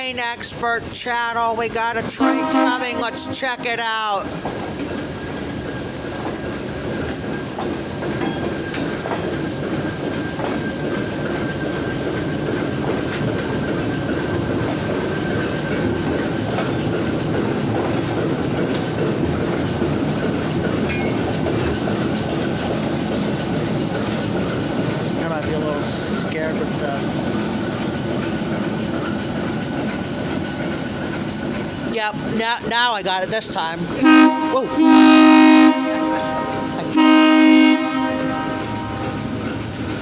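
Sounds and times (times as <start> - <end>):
diesel locomotive passing: 0.0 - 40.0
freight train rumble: 0.0 - 40.0
wheels clicking over rail joints: 0.0 - 40.0.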